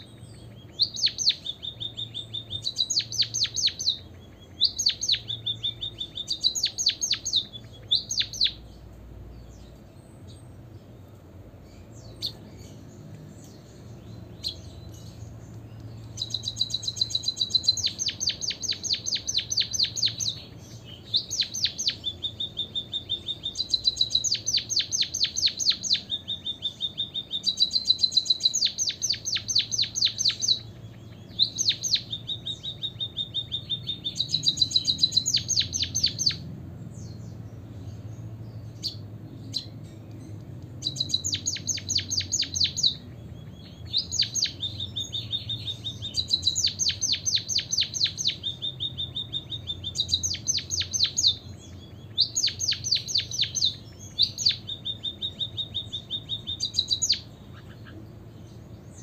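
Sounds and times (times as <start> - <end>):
bird singing: 0.0 - 59.0.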